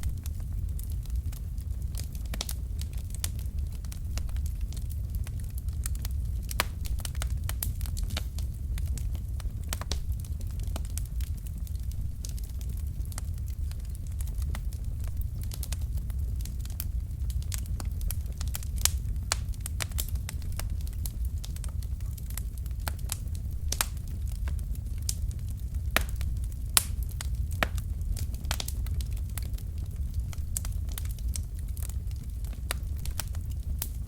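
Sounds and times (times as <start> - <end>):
burning logs popping and snapping: 0.0 - 34.0
fire rumbling: 0.0 - 34.0.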